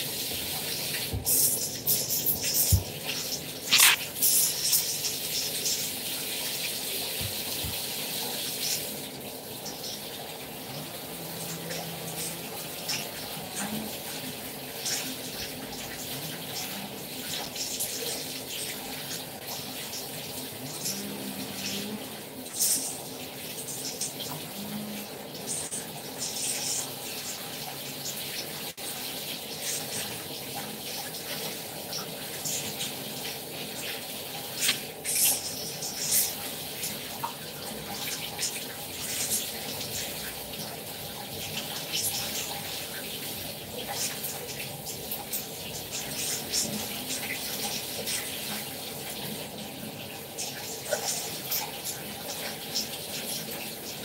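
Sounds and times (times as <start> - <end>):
tap water running and splashing: 0.0 - 54.0.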